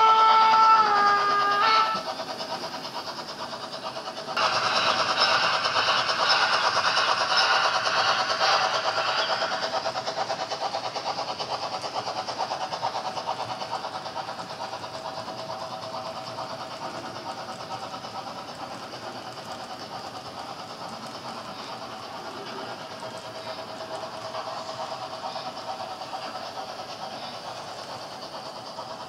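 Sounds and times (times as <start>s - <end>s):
model train whirring: 0.0s - 29.0s.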